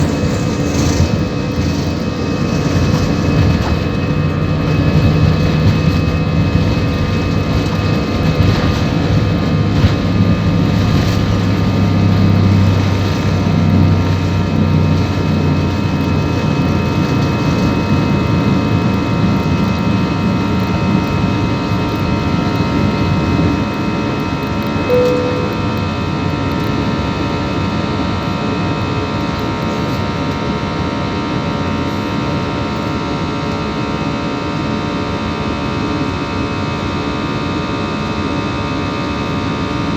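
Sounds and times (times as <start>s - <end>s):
jet engines from inside cabin: 0.0s - 39.9s.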